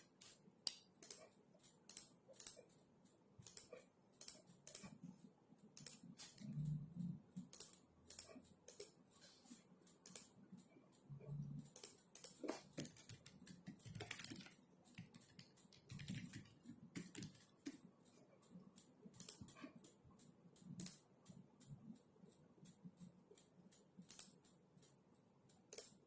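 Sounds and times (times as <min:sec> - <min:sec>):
typing on computer keyboard: 0:00.0 - 0:26.0.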